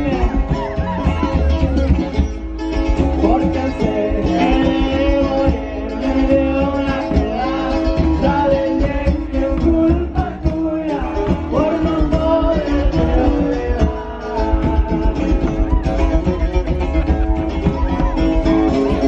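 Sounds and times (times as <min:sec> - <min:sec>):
person singing: 0:00.0 - 0:01.8, 0:03.0 - 0:19.0
live band playing: 0:00.0 - 0:19.0.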